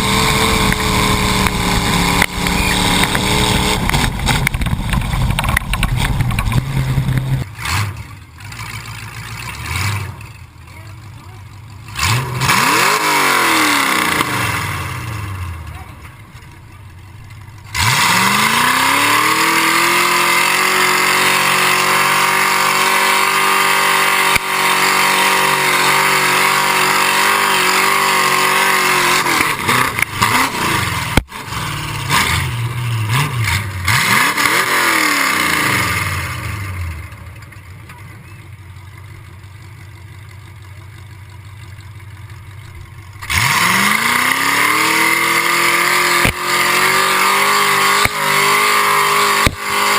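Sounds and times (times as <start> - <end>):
off-road vehicle engine revving: 0.0 - 38.6, 41.6 - 49.9.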